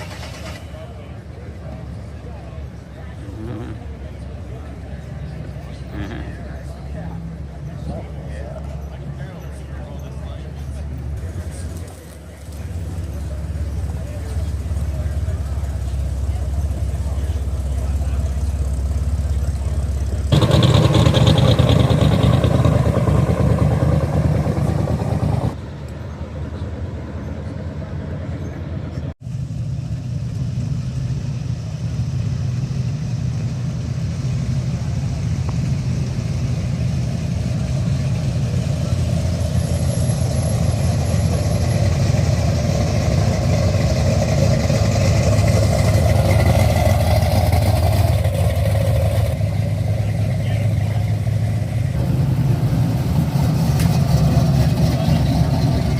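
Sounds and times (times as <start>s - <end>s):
car engines rumbling: 0.0s - 55.9s.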